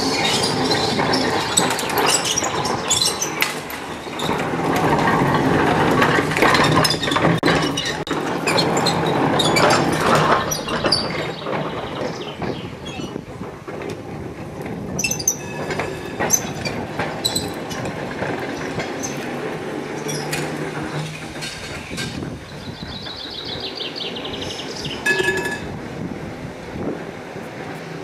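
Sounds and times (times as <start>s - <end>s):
tram wheels clacking over rail joints: 0.0s - 28.0s
wheels squealing on rails: 0.0s - 28.0s.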